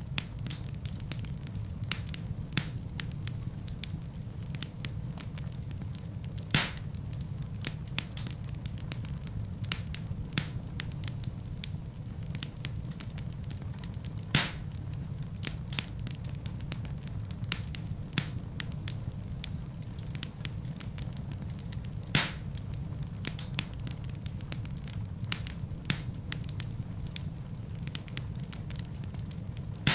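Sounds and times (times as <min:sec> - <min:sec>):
fireplace fire crackling: 0:00.0 - 0:29.9
fire popping loudly: 0:00.1 - 0:29.9.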